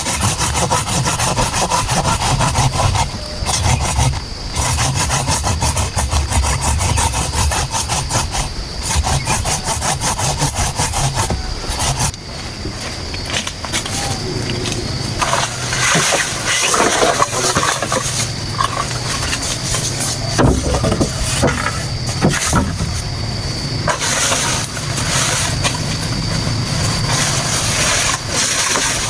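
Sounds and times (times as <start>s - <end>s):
saw cutting bamboo: 0.0s - 12.1s, 15.2s - 23.1s, 23.9s - 25.7s, 27.1s - 29.0s.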